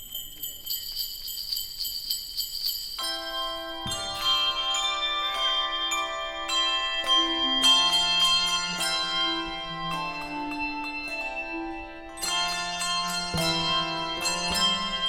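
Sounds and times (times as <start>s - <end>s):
handbell choir playing: 0.0s - 15.0s
low bell tone: 0.0s - 15.0s.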